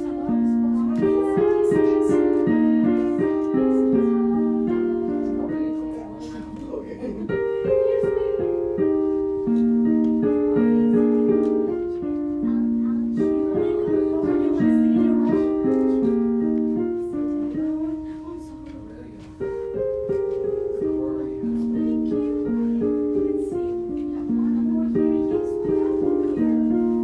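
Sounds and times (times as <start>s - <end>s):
piano melody over chords: 0.0s - 27.0s.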